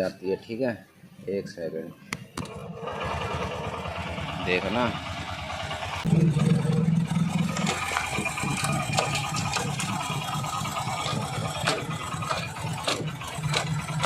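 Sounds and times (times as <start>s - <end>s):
motorcycle engine idling: 2.4s - 14.0s.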